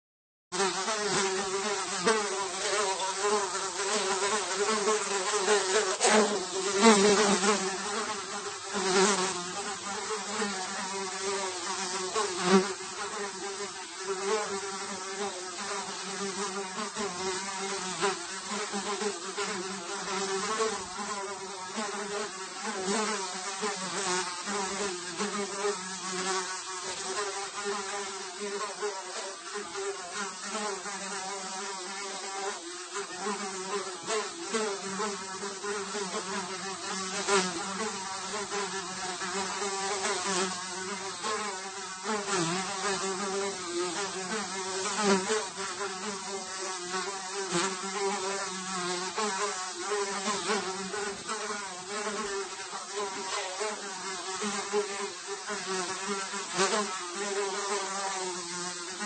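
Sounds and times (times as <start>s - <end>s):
fly buzzing: 0.5s - 59.0s.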